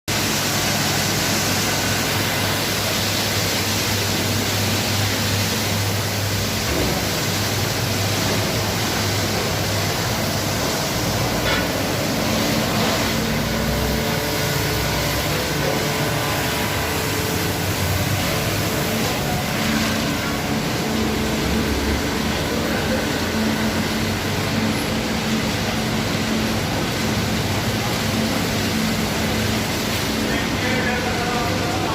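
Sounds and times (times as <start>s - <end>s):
low machine hum: 0.1s - 31.9s
water spraying: 0.1s - 31.9s.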